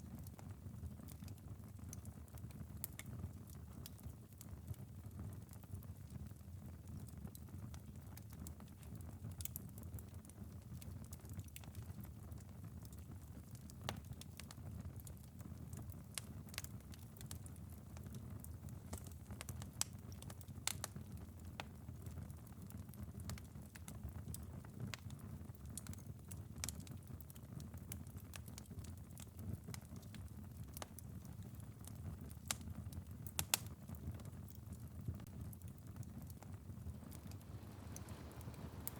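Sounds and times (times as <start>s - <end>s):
rain pattering softly: 0.0s - 38.9s
wood fire crackling: 0.0s - 38.9s.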